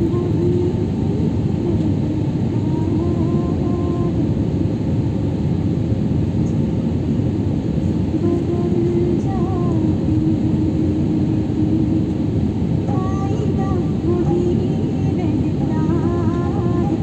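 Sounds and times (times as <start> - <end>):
jet cabin engine roar: 0.0 - 17.0.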